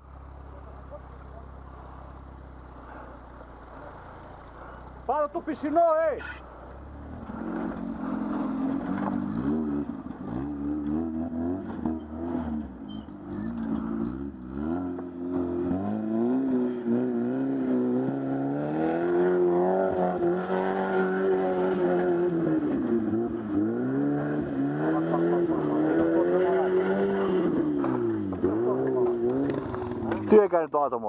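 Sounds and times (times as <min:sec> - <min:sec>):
off-road vehicle engine revving: 0:00.0 - 0:30.6.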